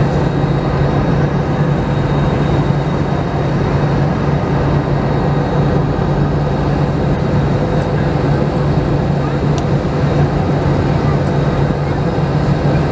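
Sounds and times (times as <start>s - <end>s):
jet engines droning: 0.0s - 12.9s.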